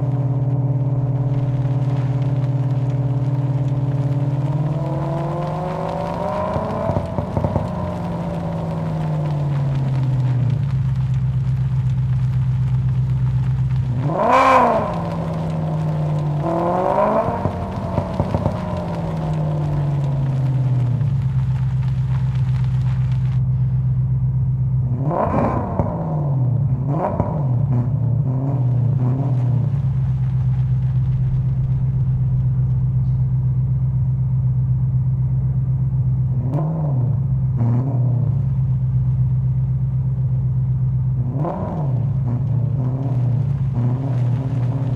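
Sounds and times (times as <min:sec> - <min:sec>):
car engine idling and revving: 0:00.0 - 0:44.9
exhaust cracks: 0:00.0 - 0:44.9.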